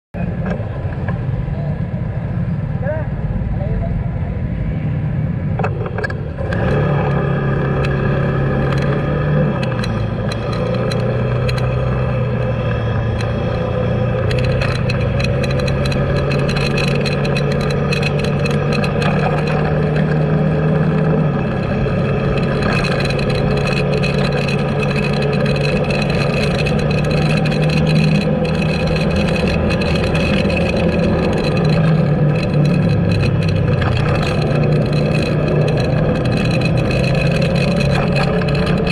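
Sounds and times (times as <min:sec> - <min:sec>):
road noise: 0:00.2 - 0:38.9
vehicle engine running: 0:00.2 - 0:38.9.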